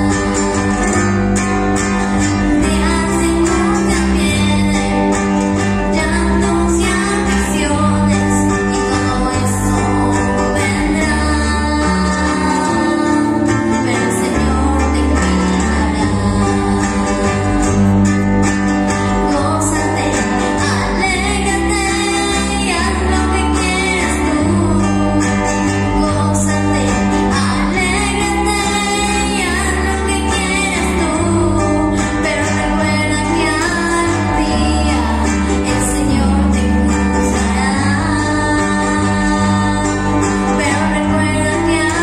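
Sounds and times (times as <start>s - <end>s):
girl singing into microphone: 0.0s - 18.1s, 19.0s - 42.0s
acoustic guitars: 0.0s - 42.0s
bass guitar notes: 0.0s - 42.0s.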